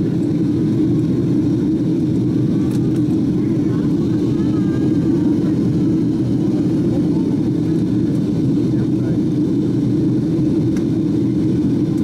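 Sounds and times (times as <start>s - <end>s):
airflow over fuselage: 0.0s - 12.0s
jet engines droning: 0.0s - 12.0s.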